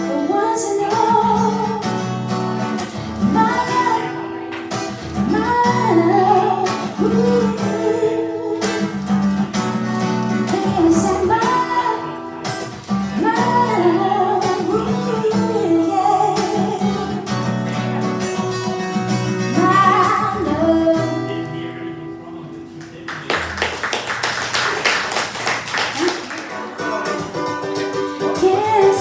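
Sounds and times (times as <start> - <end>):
acoustic guitar strumming: 0.0 - 23.8, 25.7 - 29.0.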